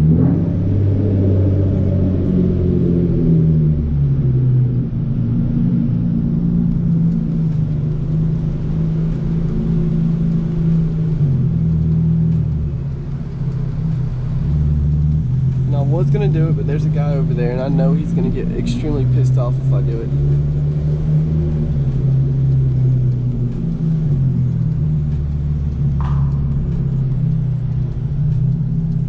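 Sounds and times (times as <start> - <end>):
car exhaust droning: 0.0 - 29.0.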